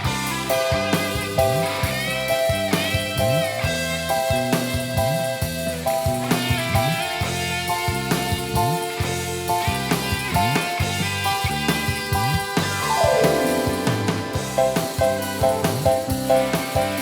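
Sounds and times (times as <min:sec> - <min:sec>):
drum beat: 0:00.0 - 0:17.0
sliding bass line: 0:00.0 - 0:17.0.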